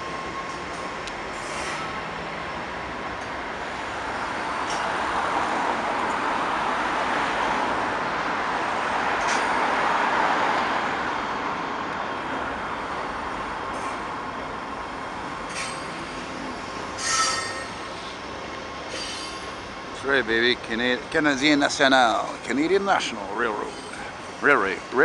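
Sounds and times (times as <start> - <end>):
train passing over steel bridge: 0.0 - 25.0.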